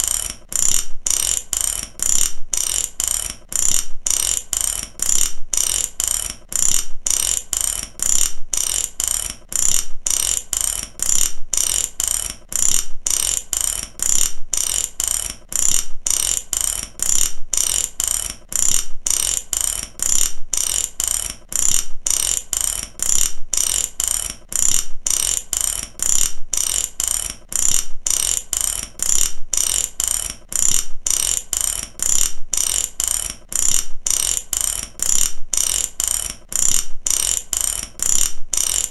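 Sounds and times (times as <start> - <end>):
mechanical ratchet clicking: 0.0 - 38.9.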